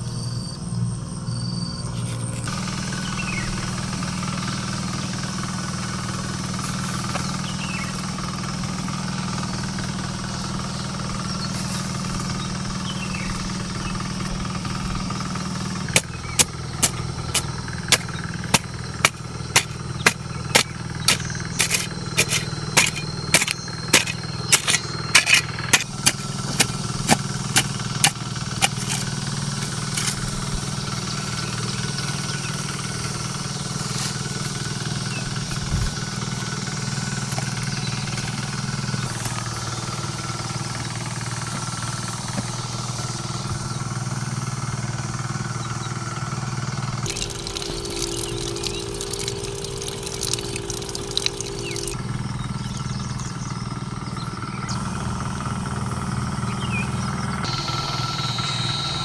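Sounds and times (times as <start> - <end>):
low engine-like hum: 0.0 - 59.0.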